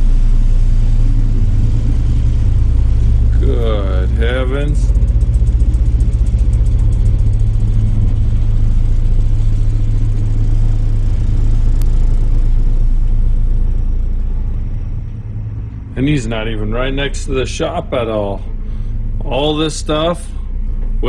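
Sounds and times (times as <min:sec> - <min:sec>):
construction machinery rumble: 0:00.0 - 0:21.0
fast rattling pulse: 0:00.0 - 0:21.0.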